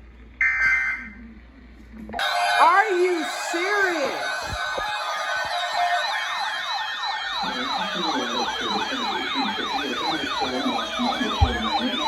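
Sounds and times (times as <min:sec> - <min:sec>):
electronic yelp siren wailing: 0:02.2 - 0:12.0.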